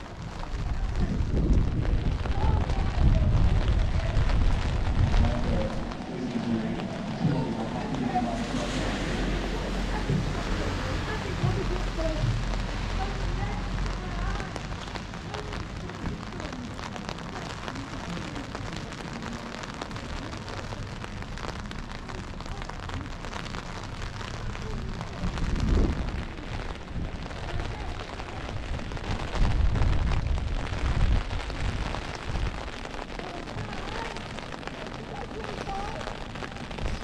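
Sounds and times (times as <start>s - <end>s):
low rumble: 0.0s - 37.0s
steady rain hiss: 0.0s - 37.0s.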